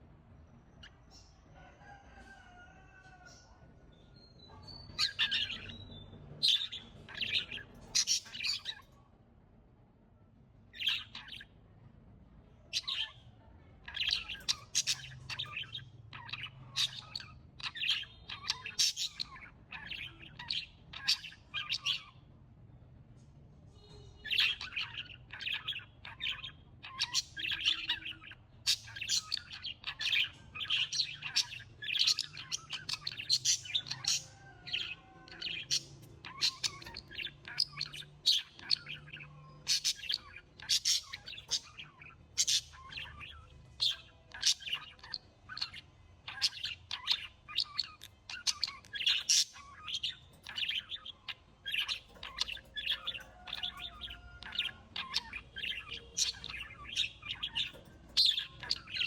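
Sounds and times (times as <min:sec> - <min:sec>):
birds chirping: 0:00.7 - 0:09.1, 0:10.6 - 0:11.8, 0:12.5 - 0:22.4, 0:23.7 - 0:59.0.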